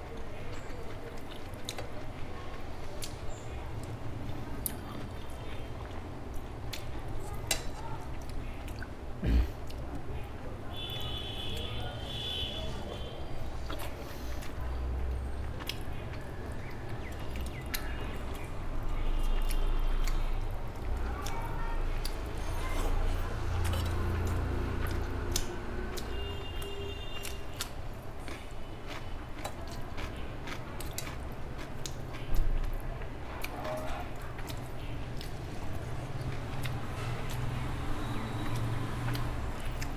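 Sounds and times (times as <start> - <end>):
wet chewing: 0.1 - 9.9, 13.4 - 22.4, 23.1 - 39.9.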